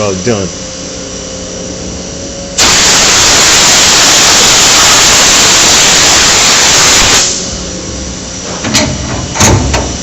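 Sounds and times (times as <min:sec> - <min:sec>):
loud steady hiss: 0:02.0 - 0:10.0.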